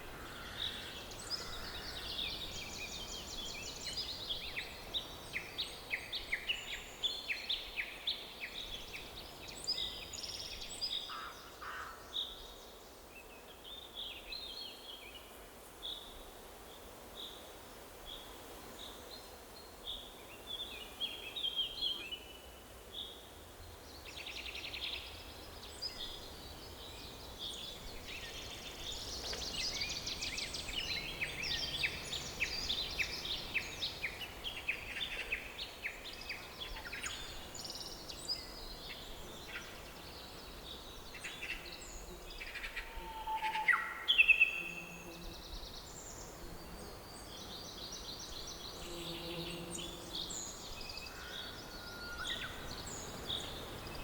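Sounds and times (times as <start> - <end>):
faint background noise: 0.0 - 54.0
forest birds chirping: 0.0 - 54.0.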